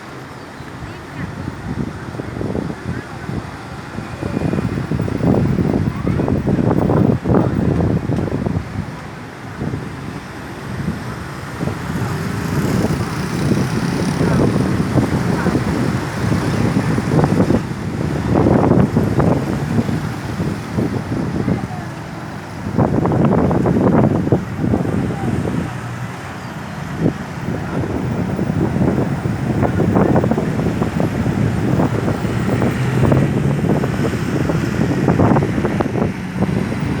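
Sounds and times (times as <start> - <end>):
road traffic passing: 0.0 - 37.0
wind on microphone: 0.0 - 37.0.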